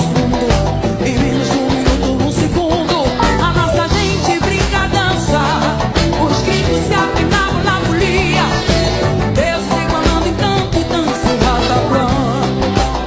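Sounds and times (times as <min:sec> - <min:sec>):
band drums and percussion: 0:00.0 - 0:13.0
woman singing: 0:00.0 - 0:13.0.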